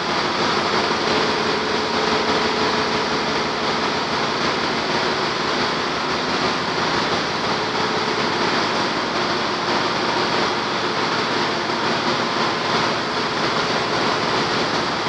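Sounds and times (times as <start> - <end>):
engine room machinery din: 0.0 - 15.0.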